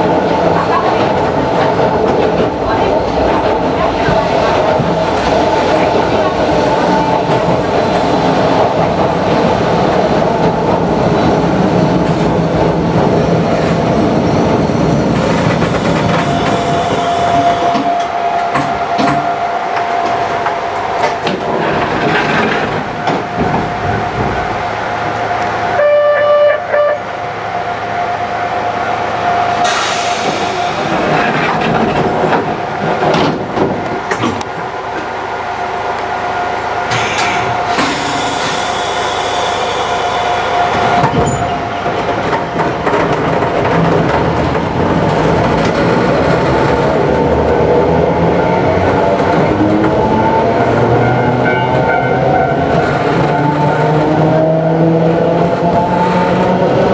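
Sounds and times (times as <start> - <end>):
electric railcar running: 0.0 - 56.9.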